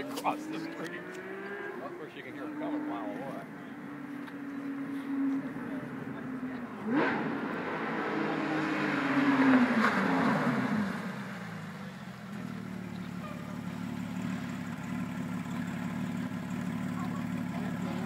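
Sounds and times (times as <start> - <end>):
low engine hum: 0.0 - 18.0
sports car passing by: 0.0 - 18.0.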